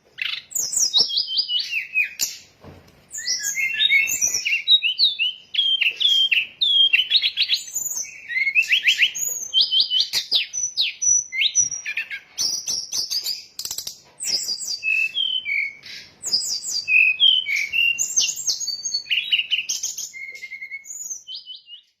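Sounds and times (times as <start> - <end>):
bird song whistles and trills: 0.0 - 2.5, 3.1 - 22.0.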